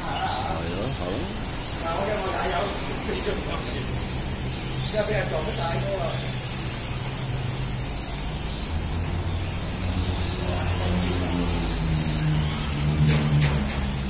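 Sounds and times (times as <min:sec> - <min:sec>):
electric toy car motors whining: 0:00.0 - 0:14.0.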